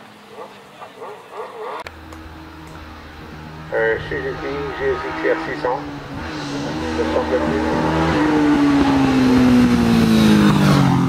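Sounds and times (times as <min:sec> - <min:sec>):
motorcycle engine high revs: 0:00.0 - 0:11.0.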